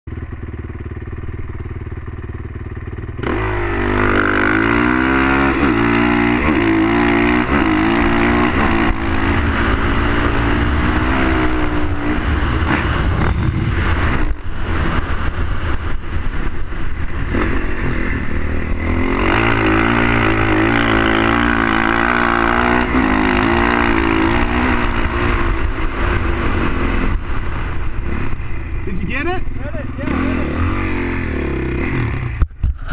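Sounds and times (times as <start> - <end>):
dirt bike engine accelerating: 0.1 - 32.9.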